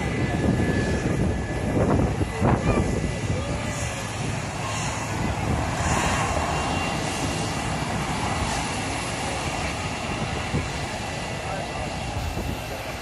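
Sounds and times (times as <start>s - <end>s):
airliner engines roaring: 0.0s - 13.0s
wind buffeting microphone: 0.0s - 13.0s.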